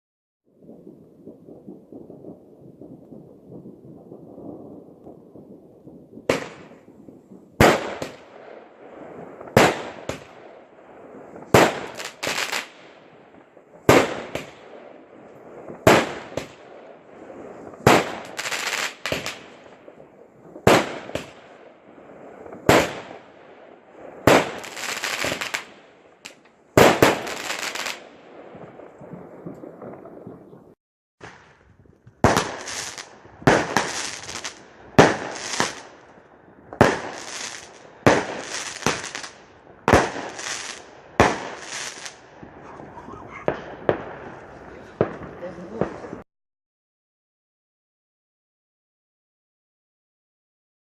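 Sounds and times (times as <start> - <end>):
fireworks bangs: 0.6 - 46.2
fireworks crackling: 0.6 - 46.2.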